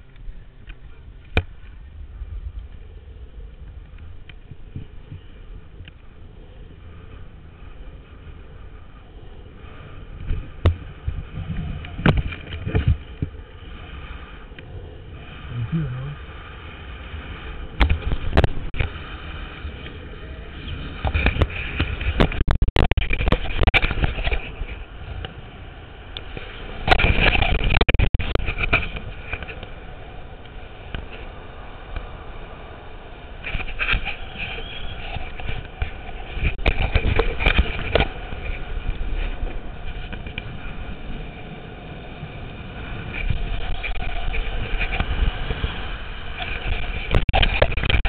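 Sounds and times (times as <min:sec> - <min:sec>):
longboard wheels rumbling on asphalt: 0:00.0 - 0:48.0
wind on microphone: 0:00.0 - 0:48.0.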